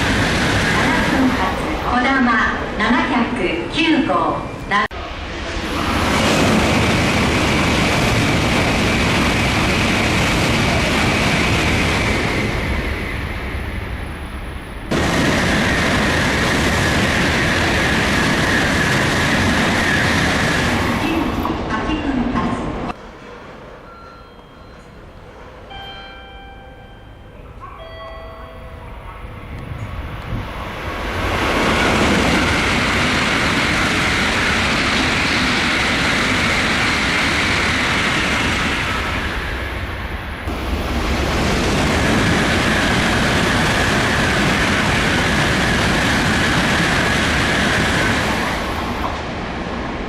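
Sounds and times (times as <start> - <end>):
high-speed train rushing past: 0.0 - 50.0.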